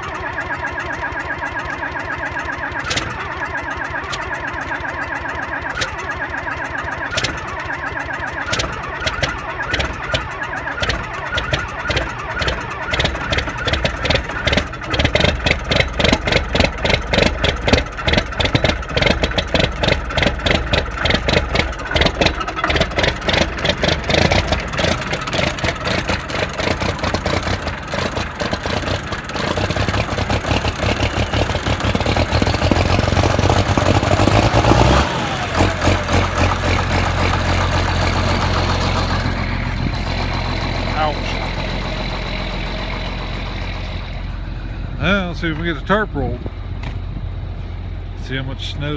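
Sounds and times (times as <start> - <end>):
truck engine running unevenly: 0.0 - 48.9.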